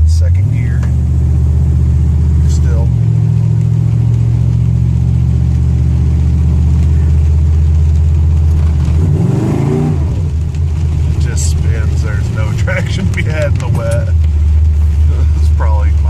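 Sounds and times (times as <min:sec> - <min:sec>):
truck engine running and revving: 0:00.0 - 0:16.0.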